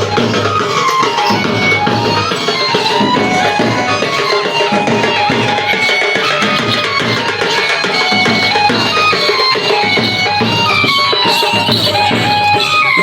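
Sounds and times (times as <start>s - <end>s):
high wavering melody: 0.0s - 13.0s
steady busy drum rhythm: 0.0s - 13.0s.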